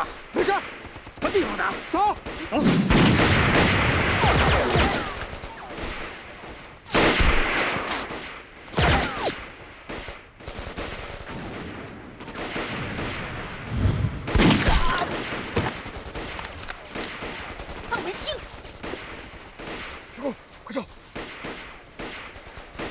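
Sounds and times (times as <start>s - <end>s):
rifle and machine-gun fire: 0.0s - 22.9s.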